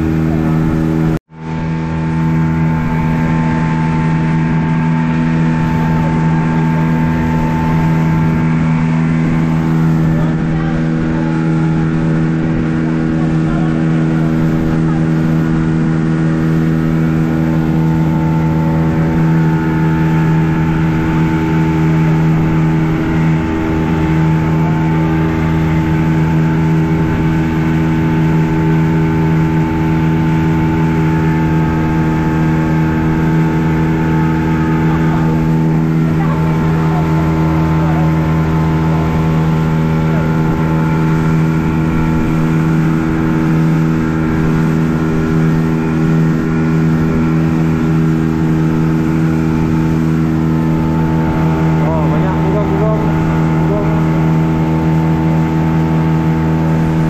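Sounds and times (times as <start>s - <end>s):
outboard motor droning: 0.0s - 57.0s.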